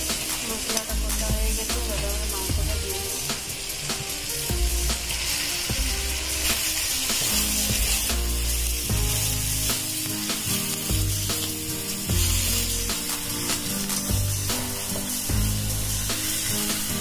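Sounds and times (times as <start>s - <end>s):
music with beat and bass: 0.0s - 17.0s
steady high hiss: 0.0s - 17.0s.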